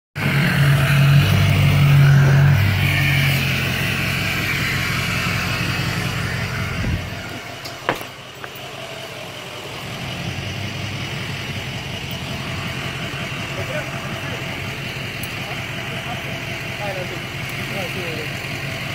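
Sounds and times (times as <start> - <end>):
tow truck engine idling: 0.2 - 18.9.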